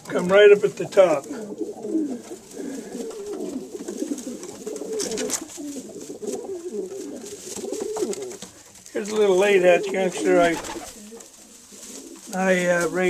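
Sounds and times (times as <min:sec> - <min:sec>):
pigeons cooing: 0:00.0 - 0:12.6.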